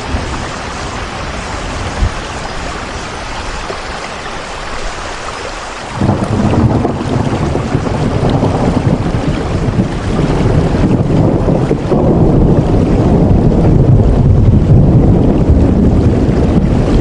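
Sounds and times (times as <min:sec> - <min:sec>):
deep storm rumble: 0:00.0 - 0:04.1, 0:05.8 - 0:17.0
rain hiss: 0:00.0 - 0:14.1.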